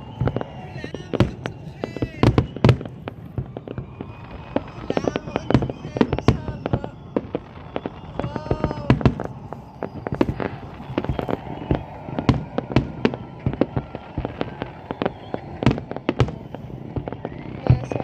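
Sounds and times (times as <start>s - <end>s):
fireworks bangs and bursts: 0.0s - 18.0s.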